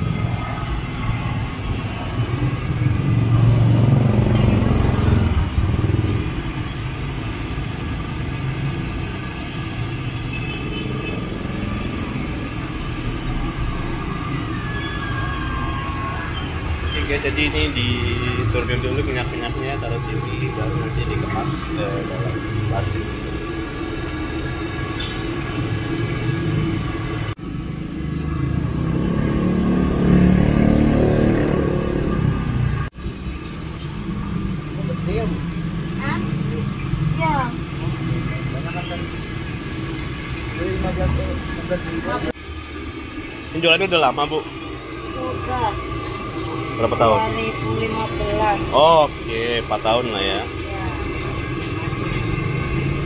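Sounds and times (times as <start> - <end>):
car engines on road: 0.0 - 53.0
motorbike engines: 0.0 - 53.0.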